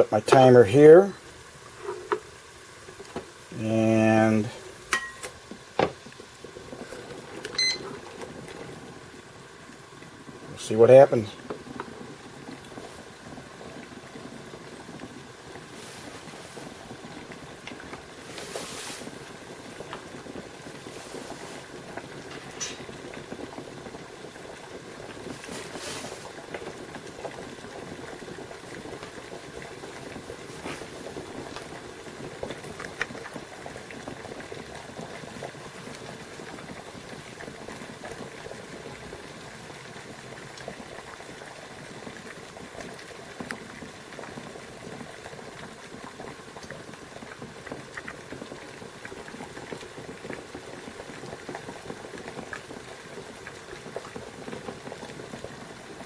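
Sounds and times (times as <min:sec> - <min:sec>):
water boiling and bubbling: 0:00.0 - 0:56.0.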